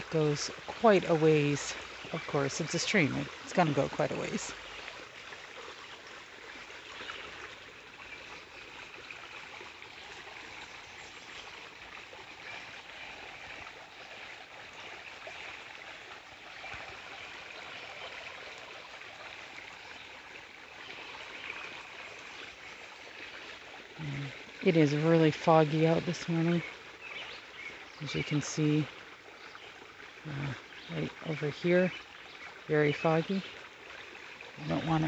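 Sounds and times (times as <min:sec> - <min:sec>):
water rushing over rocks: 0:00.0 - 0:35.0.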